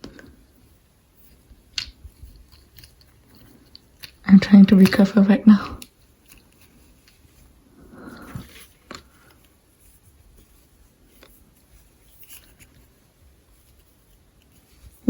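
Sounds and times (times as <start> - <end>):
soft rustle: 0.0 - 15.0.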